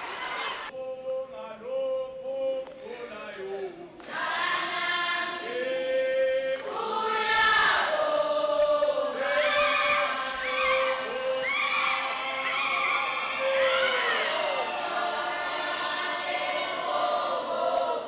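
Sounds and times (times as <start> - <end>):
group of voices singing: 0.2 - 18.0.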